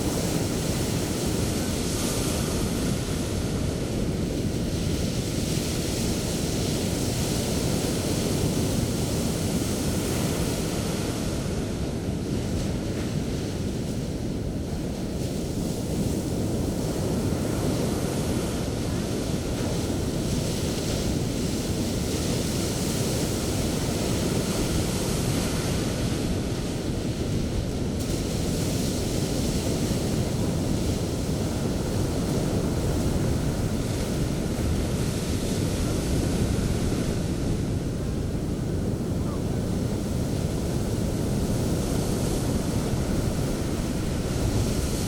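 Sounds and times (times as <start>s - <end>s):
sea surf washing on beach: 0.0s - 45.0s.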